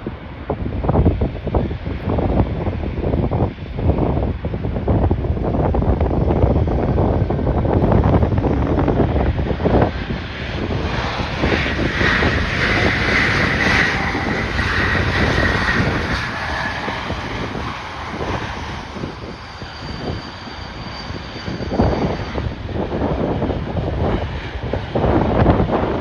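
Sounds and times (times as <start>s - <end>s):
aircraft engines whining: 0.0s - 26.0s
wind buffeting microphone: 0.0s - 26.0s.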